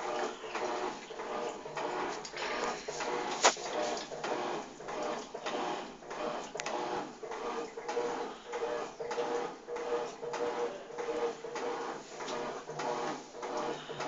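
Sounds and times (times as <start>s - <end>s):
motor hum: 0.0s - 14.0s
washing machine agitator swishing: 0.0s - 14.0s.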